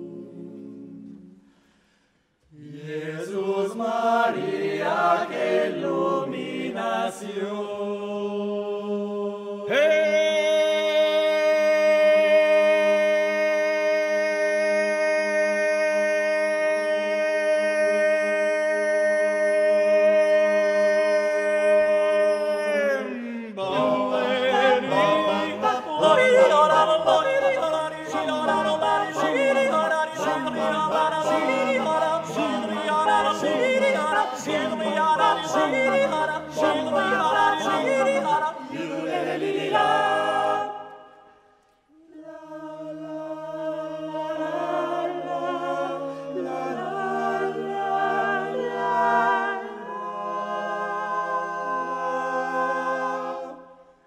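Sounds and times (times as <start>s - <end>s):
male vocal group singing a cappella: 0.0s - 1.4s, 2.5s - 41.1s, 41.9s - 53.9s.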